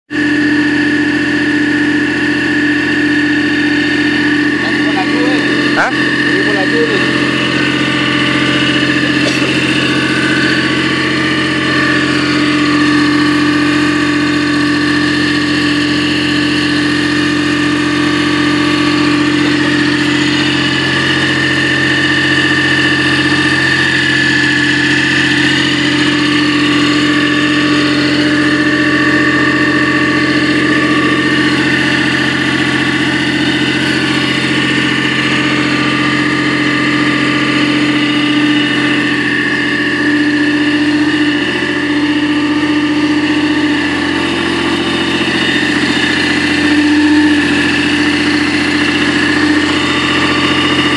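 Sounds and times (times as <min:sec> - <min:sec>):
drilling machine engine humming: 0:00.1 - 0:50.9.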